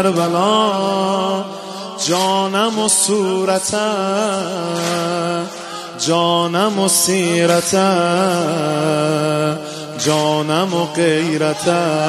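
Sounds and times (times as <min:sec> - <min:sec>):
man chanting a lament into microphone: 0:00.0 - 0:12.0.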